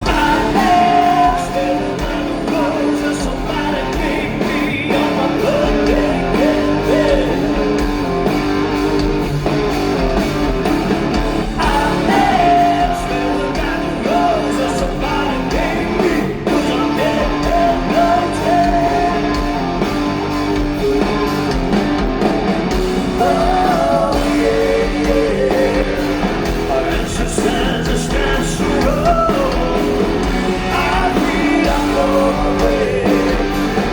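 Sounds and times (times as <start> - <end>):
lead vocalist singing: 0.0 - 9.3, 10.2 - 21.8, 22.7 - 33.9
live rock band: 0.0 - 33.9.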